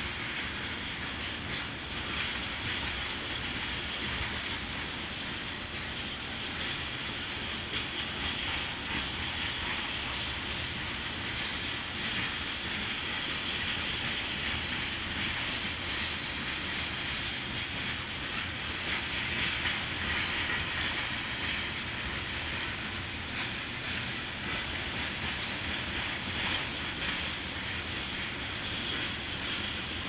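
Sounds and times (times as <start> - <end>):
freight train wheels on rails: 0.0 - 30.0.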